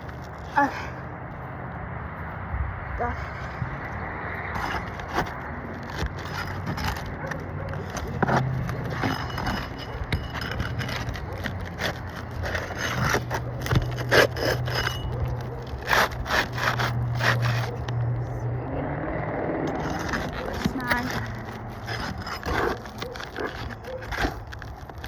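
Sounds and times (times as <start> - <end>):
metal tool scraping under shingles: 3.2 - 18.4, 19.7 - 25.0.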